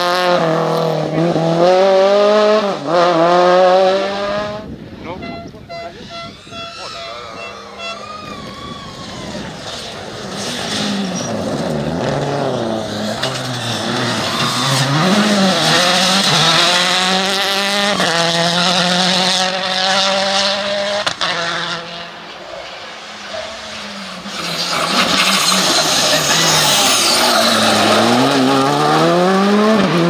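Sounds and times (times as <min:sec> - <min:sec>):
rally car engine revving: 0:00.0 - 0:04.7, 0:09.5 - 0:30.0.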